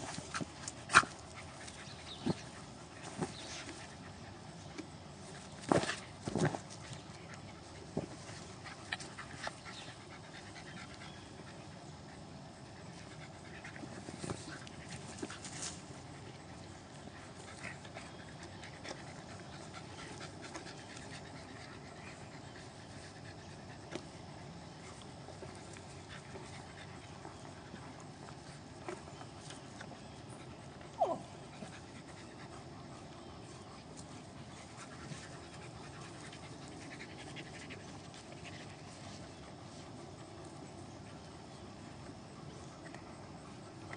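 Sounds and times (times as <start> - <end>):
dogs panting: 0.0 - 43.9.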